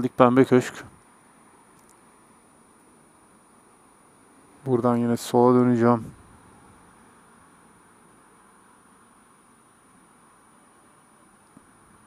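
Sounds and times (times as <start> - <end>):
faint steady hiss: 0.0 - 12.0
thin high whine: 0.0 - 12.0.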